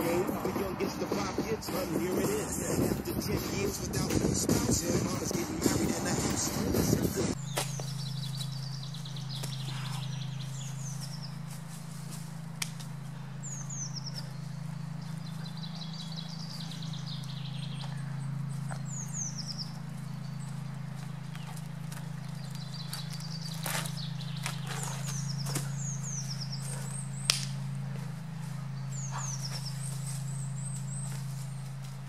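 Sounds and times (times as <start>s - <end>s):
small birds singing: 0.0s - 32.0s
steady low hum: 0.0s - 32.0s.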